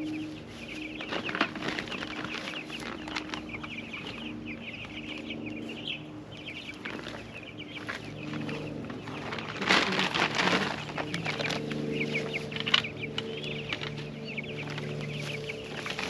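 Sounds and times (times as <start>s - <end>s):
chicks peeping: 0.0s - 16.0s
low steady hum: 0.0s - 16.0s.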